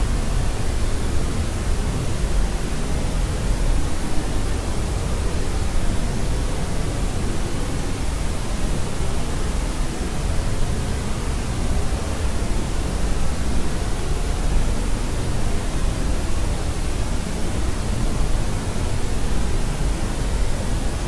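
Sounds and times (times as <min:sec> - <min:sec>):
white noise hiss and rumble: 0:00.0 - 0:21.0.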